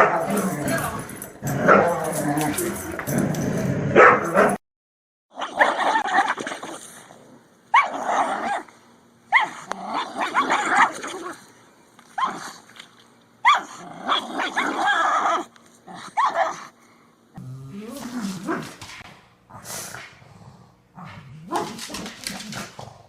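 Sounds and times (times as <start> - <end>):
dog barking and growling: 0.0 - 4.6, 5.3 - 8.7, 9.3 - 11.5, 13.4 - 16.8, 17.4 - 23.0.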